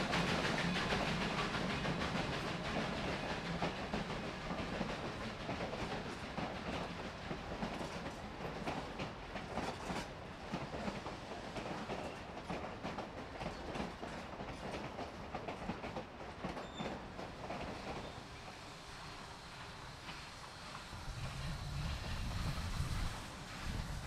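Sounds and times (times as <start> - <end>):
train cars rumbling: 0.0 - 11.0, 11.6 - 24.0.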